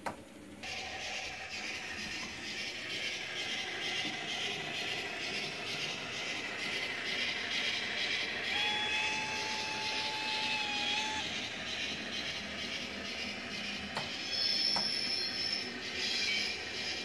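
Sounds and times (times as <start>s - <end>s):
model trains running on track: 0.6s - 17.0s.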